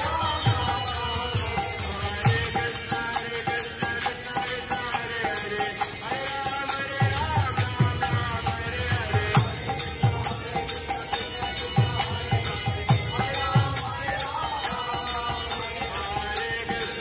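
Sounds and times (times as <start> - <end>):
harmonium: 0.0 - 17.0.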